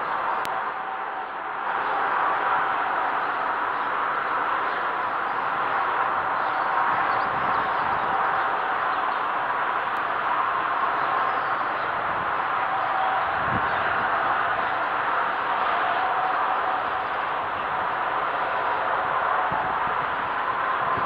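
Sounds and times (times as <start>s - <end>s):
faint constant hum: 0.0s - 21.0s.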